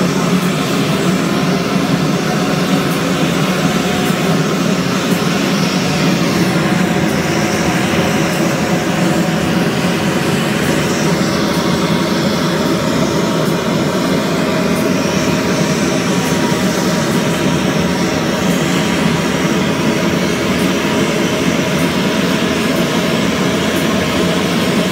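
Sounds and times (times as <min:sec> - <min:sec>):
gas torch flame rushing: 0:00.0 - 0:24.9.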